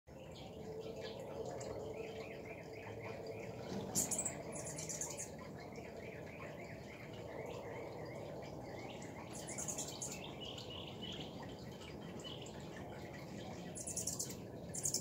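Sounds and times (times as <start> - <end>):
fountain water bubbling: 0.1 - 15.0.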